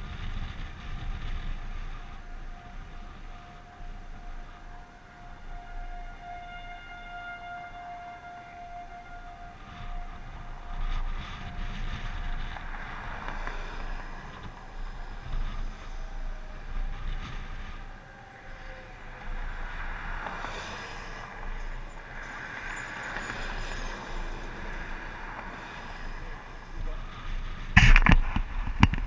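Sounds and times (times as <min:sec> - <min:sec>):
vehicles passing on highway: 0:00.0 - 0:29.0
tornado siren winding down: 0:00.1 - 0:27.7.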